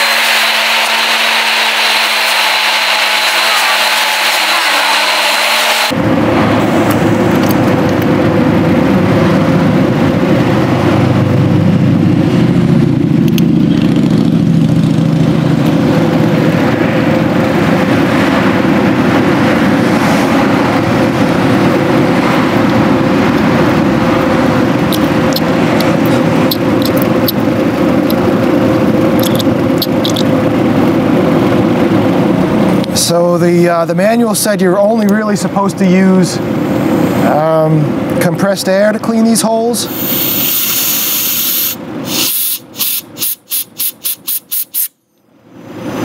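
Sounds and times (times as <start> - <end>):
machine humming drone: 0.0 - 38.2.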